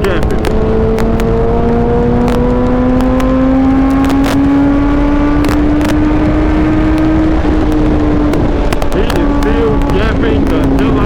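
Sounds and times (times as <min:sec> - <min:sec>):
wind rushing: 0:00.0 - 0:11.0.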